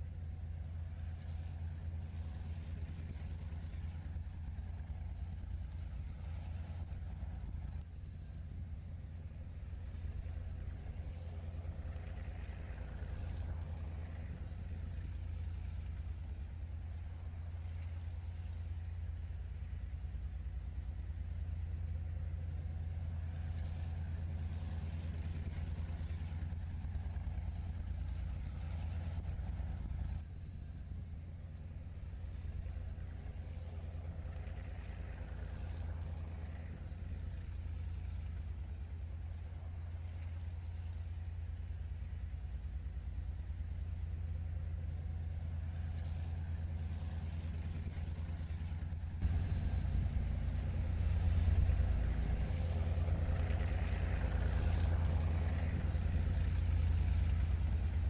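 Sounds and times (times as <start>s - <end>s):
diesel locomotive engines rumbling: 0.0s - 58.0s.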